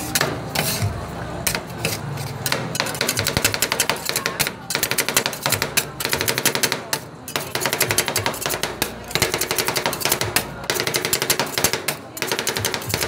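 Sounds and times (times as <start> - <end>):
metal spatulas chopping on metal plate: 0.0 - 13.0.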